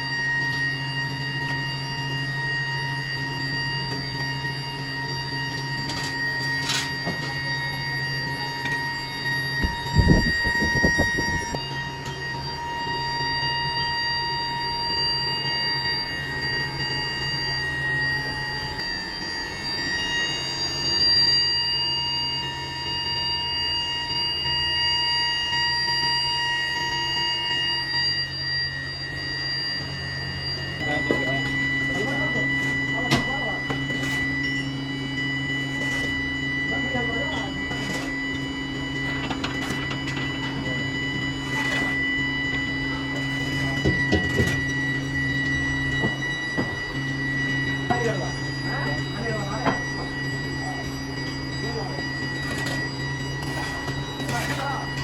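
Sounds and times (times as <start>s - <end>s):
high-pitched electrical whine: 0.0s - 55.0s
low hum: 0.0s - 55.0s.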